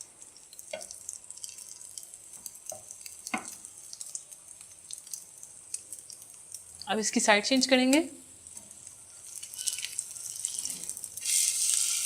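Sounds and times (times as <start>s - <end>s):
oil crackles and pops: 0.0s - 7.0s, 7.9s - 12.0s
bread frying in oil: 0.0s - 12.0s.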